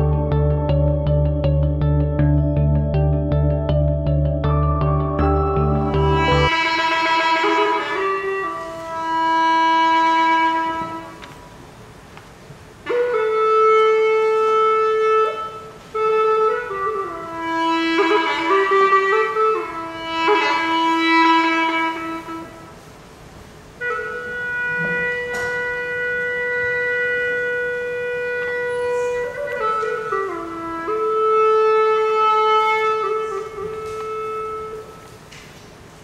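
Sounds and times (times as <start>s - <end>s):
wooden wind instrument melody: 0.0s - 12.1s, 12.7s - 36.0s.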